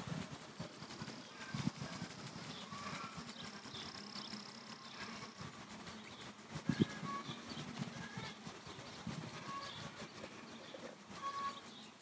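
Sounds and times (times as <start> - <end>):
bees buzzing: 0.0 - 12.0
small birds chirping: 0.3 - 12.0.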